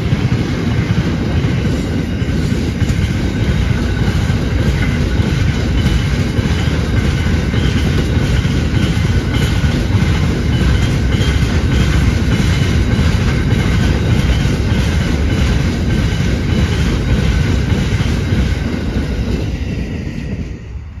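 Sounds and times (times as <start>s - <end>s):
wheels clickety-clack on track: 0.0s - 20.8s
freight train rumbling: 0.0s - 21.0s.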